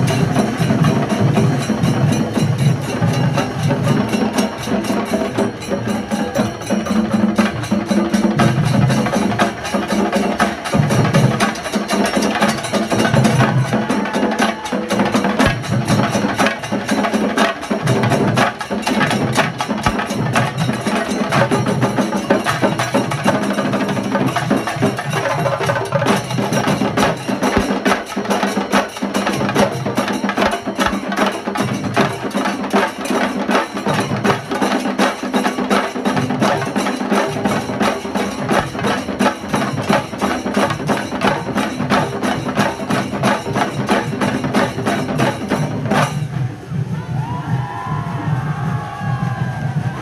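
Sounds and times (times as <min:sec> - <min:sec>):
drum ensemble playing fast rhythm: 0:00.0 - 0:47.5.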